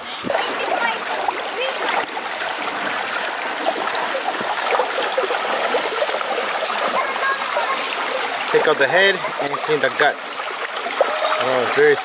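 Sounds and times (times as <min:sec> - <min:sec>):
creek babbling over rocks: 0:00.0 - 0:12.0.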